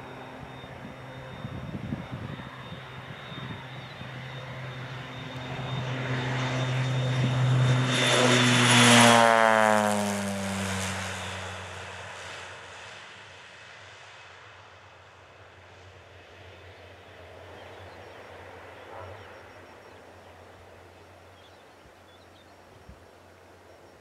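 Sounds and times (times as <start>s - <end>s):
airplane engine and propeller drone: 0.0s - 24.0s.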